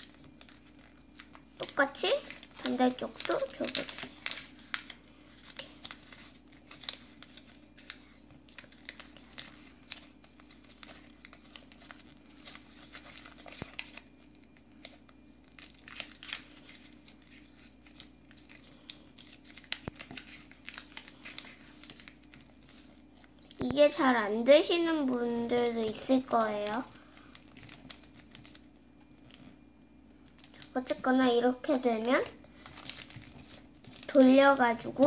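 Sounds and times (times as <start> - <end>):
paper rustling and crinkling: 0.0 - 29.6, 30.2 - 35.0
faint steady hum: 0.0 - 35.0.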